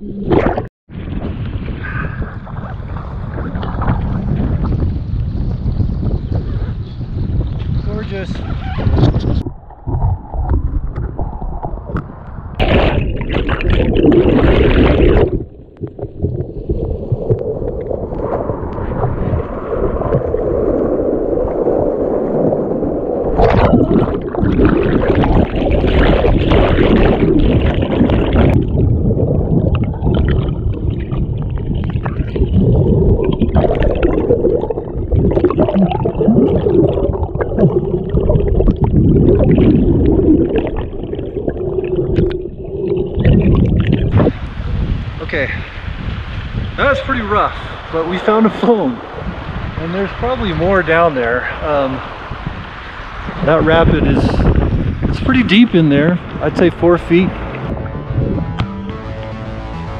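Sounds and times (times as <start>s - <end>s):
water churning: 0.0s - 5.2s, 8.1s - 58.6s
underwater river current rushing: 9.4s - 58.2s.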